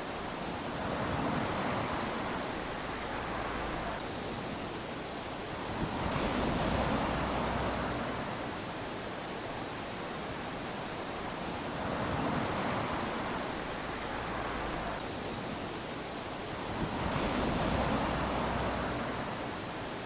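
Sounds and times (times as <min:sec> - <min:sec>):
small waves lapping on sand: 0:00.0 - 0:20.0.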